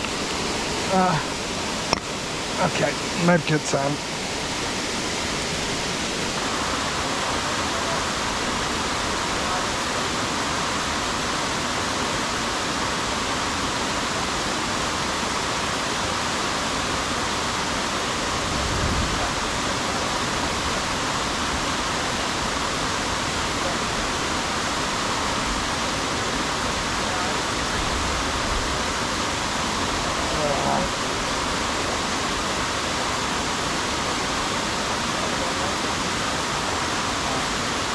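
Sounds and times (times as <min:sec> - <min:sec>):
stream and waterfall rushing: 0:00.0 - 0:37.9.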